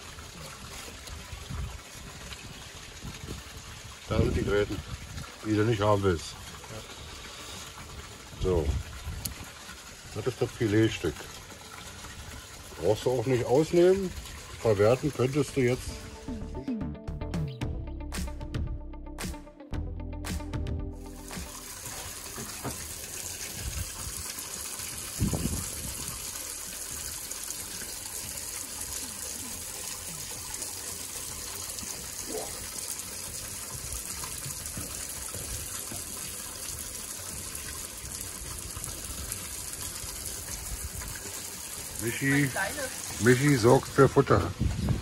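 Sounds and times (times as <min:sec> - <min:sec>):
water pouring into a pond: 0:00.0 - 0:16.2, 0:21.0 - 0:45.0.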